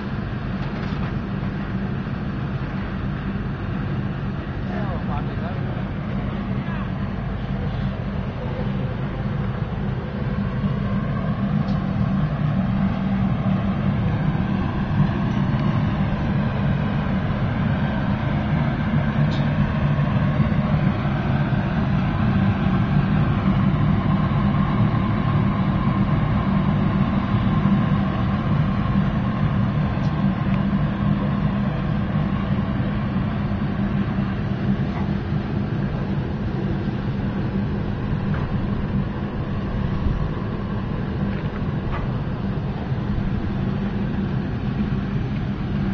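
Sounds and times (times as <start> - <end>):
furnace low rumble: 0.0 - 45.9.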